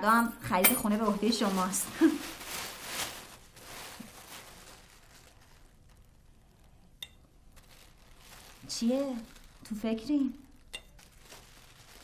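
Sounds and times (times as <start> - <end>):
plastic bag crinkling: 0.8 - 12.0.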